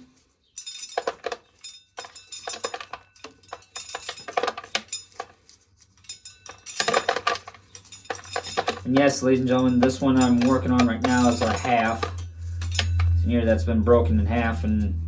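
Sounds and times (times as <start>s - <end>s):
corn kernels clattering off cob: 0.0s - 12.9s.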